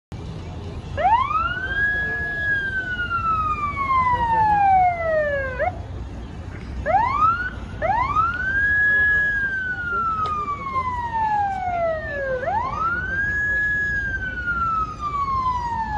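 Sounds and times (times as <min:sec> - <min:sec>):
siren sweeping in pitch: 0:01.0 - 0:05.8, 0:06.9 - 0:15.9.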